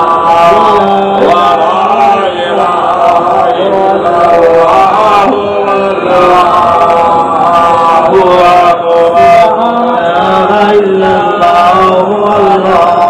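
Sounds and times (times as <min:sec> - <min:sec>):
man chanting devotional melody: 0:00.0 - 0:13.0.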